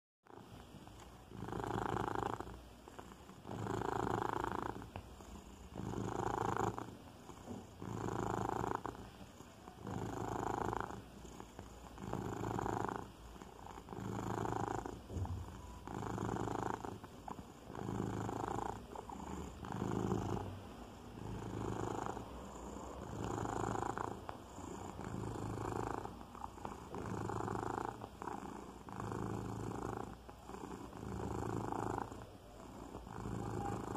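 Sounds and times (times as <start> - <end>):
cat purring: 0.3 - 33.9.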